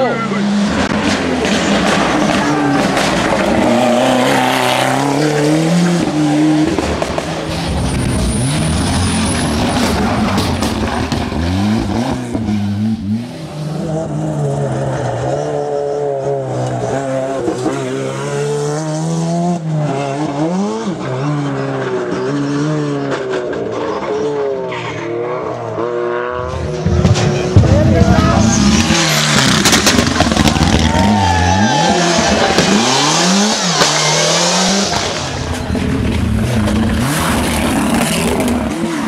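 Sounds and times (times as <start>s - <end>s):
rally car engine revving hard: 0.0s - 39.0s.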